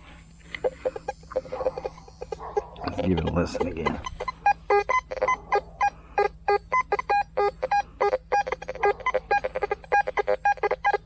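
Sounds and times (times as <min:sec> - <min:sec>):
metal detector short beeps: 0:01.1 - 0:11.0.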